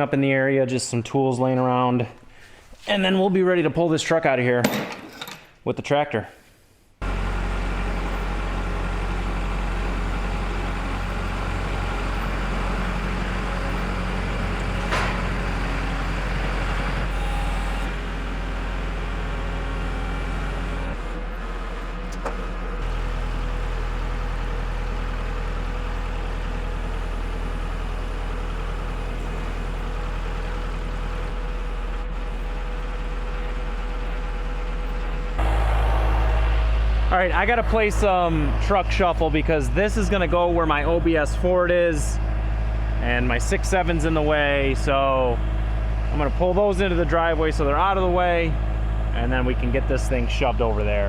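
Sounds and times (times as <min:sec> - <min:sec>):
diesel engine idling: 0:07.0 - 0:51.0.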